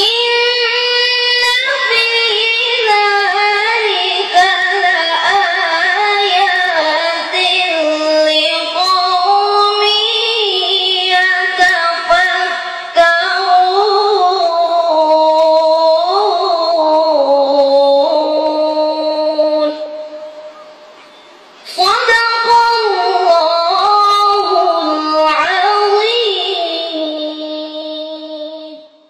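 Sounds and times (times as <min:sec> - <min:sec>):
woman reciting in melodic style: 0:00.0 - 0:29.0.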